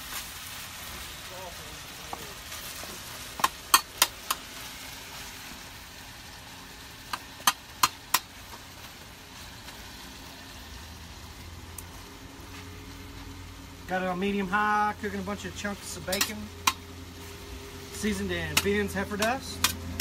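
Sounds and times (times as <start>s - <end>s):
bacon sizzling: 0.0s - 20.0s.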